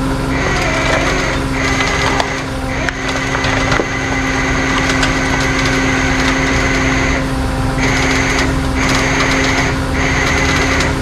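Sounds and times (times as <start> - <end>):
truck engine and hydraulic pump whine: 0.0 - 11.0.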